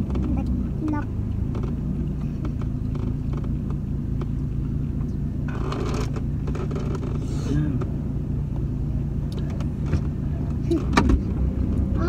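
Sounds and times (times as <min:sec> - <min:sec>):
car engine rumble: 0:00.0 - 0:12.0
road noise inside car: 0:00.0 - 0:12.0.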